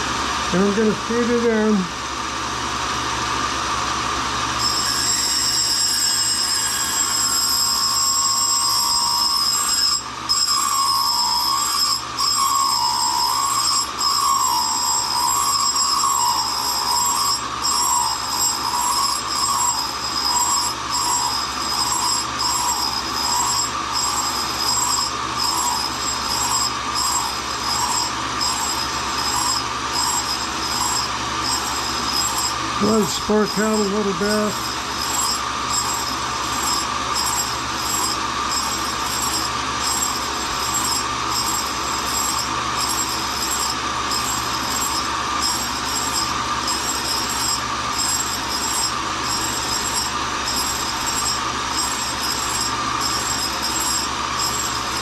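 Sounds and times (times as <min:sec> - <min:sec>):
grinder wheel whining: 0:00.0 - 0:55.0.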